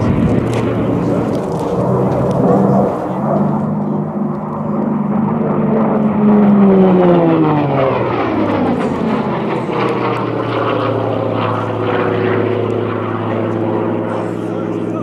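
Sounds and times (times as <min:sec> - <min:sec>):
aircraft engine and propeller passing: 0:00.0 - 0:15.0.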